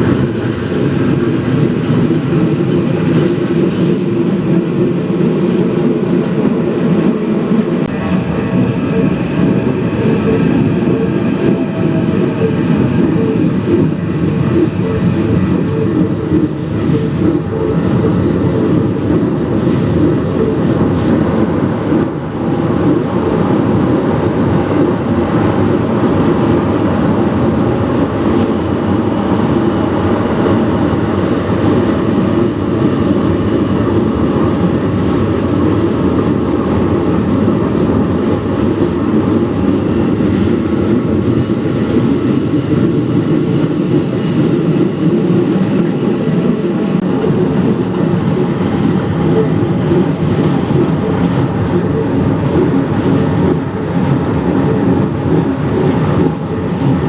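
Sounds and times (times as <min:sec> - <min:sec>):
electric trains passing: 0:00.0 - 0:57.0
wheels rumbling on rails: 0:00.0 - 0:57.0.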